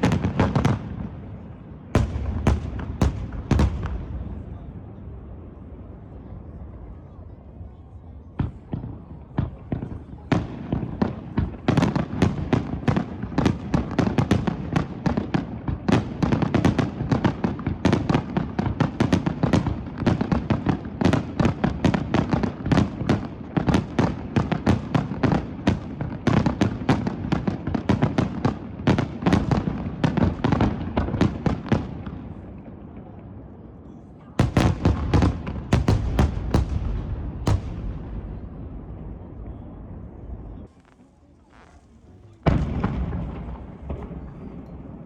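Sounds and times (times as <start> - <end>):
fireworks bangs with rumble: 0.0 - 7.0, 8.3 - 33.6, 34.4 - 41.7, 42.3 - 45.0.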